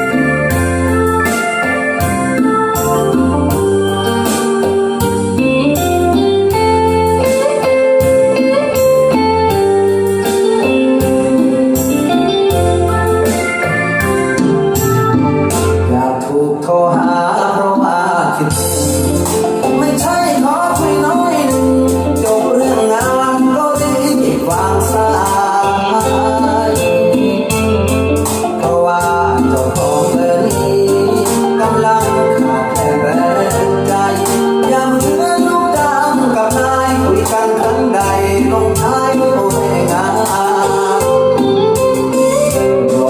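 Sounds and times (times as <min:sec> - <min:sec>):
instrumental music with guitar melody: 0:00.0 - 0:43.0
song through pa system: 0:00.0 - 0:43.0.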